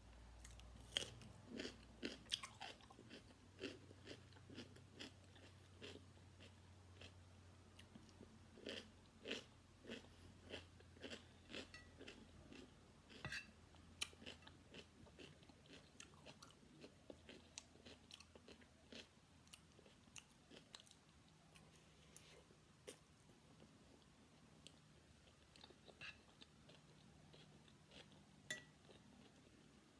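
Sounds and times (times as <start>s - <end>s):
crunchy chewing: 0.4s - 7.1s, 7.8s - 23.0s, 23.6s - 29.6s.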